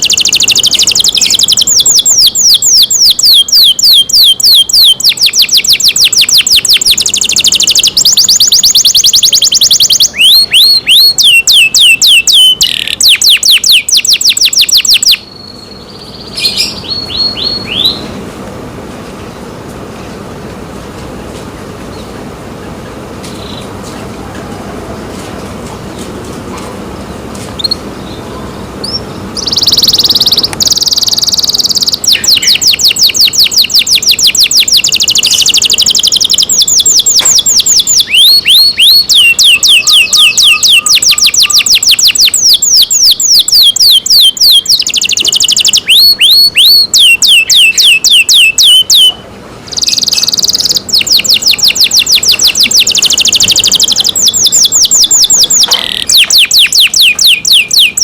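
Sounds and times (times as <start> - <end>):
canary singing fast trills: 0.0 - 18.2, 27.6 - 58.0.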